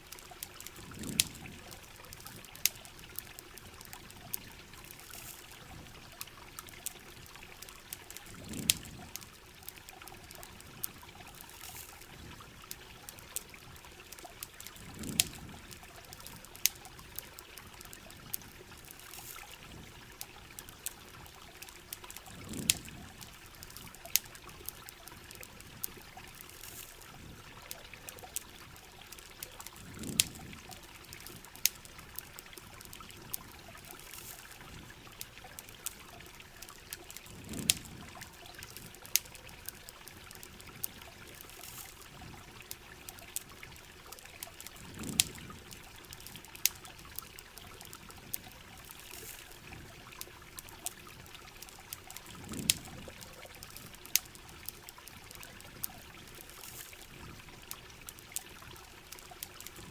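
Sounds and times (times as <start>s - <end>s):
campfire wood crackling: 0.0s - 59.9s
water trickling and pouring: 0.0s - 59.9s.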